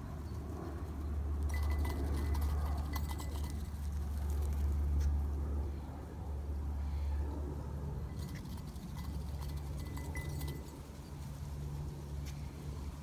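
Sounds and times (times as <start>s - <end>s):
ducks moving on grass: 0.0s - 6.0s, 8.0s - 13.0s
steady low hum: 0.0s - 13.0s.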